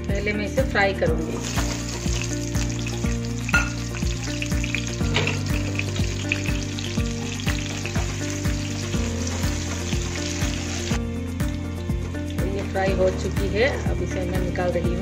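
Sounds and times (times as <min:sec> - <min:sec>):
sausage sizzling in oil: 0:01.2 - 0:14.2
background music with beat: 0:01.3 - 0:15.0.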